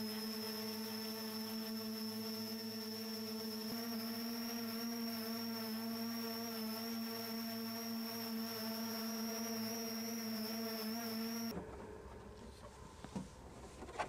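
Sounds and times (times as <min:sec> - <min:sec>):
electric rotors humming and whining: 0:00.0 - 0:11.6.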